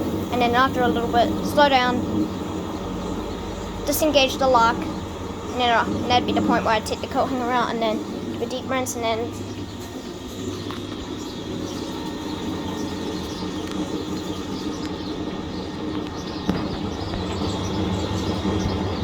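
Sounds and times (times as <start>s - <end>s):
faint ticking: 0.0s - 19.0s
washing machine spinning: 0.0s - 19.0s.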